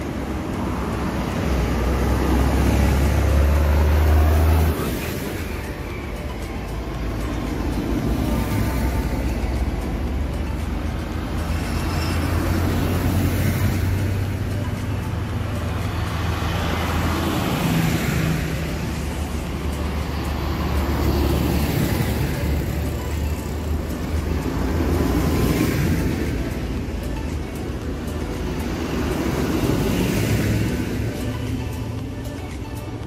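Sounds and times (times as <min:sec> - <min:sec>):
tractor engines humming: 0:00.0 - 0:33.0.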